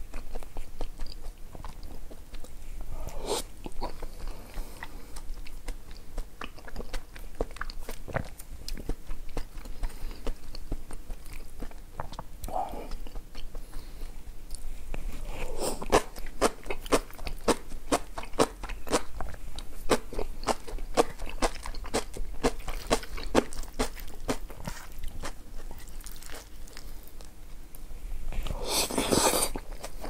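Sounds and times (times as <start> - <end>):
person chewing crunchy food: 0.0 - 27.5, 28.3 - 30.0.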